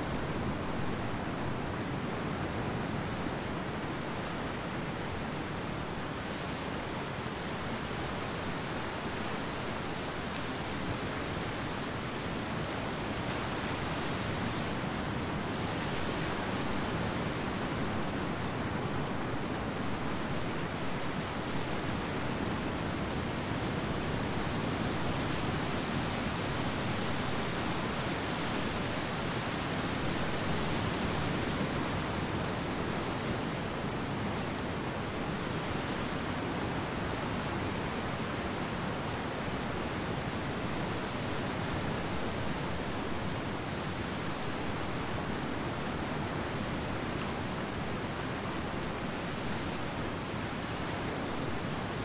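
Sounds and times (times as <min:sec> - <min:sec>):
ocean surf washing onto beach: 0:00.0 - 0:52.0.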